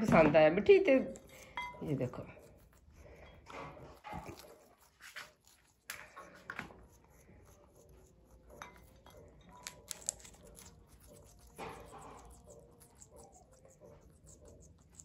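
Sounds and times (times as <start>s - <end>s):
beaks clicking on ceramic plate: 0.9s - 3.4s, 4.0s - 15.0s.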